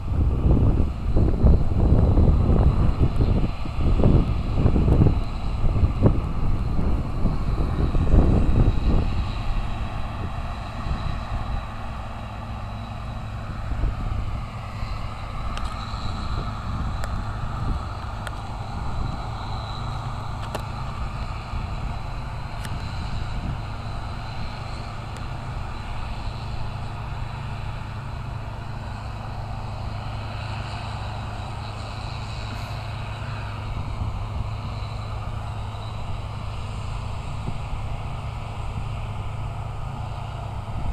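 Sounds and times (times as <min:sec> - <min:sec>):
farm machinery engine running: 0:00.0 - 0:40.9
thin high whine: 0:00.0 - 0:40.9
wind buffeting microphone: 0:00.0 - 0:40.9.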